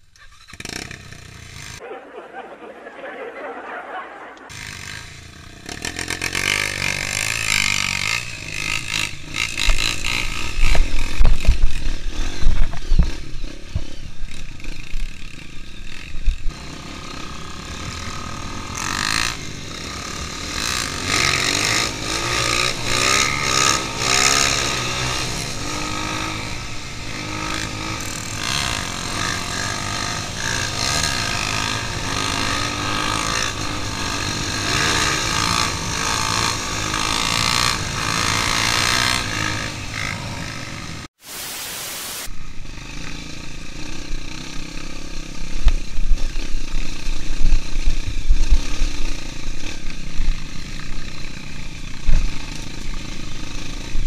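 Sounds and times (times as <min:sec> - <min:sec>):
dirt bike engine: 0:00.0 - 0:41.1, 0:42.1 - 0:54.0
other dirt bikes: 0:00.0 - 0:41.1, 0:42.2 - 0:54.0.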